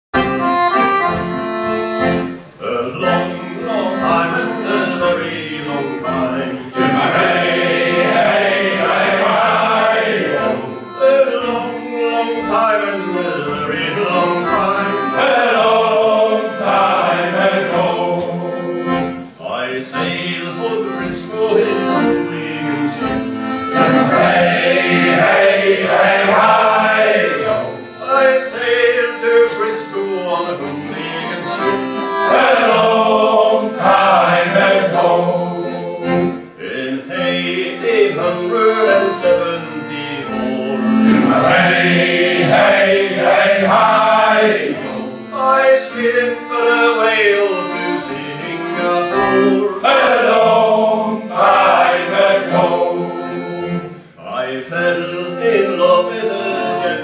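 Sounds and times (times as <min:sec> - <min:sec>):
accordion: 0:00.1 - 0:57.0
male choir singing: 0:02.6 - 0:57.0.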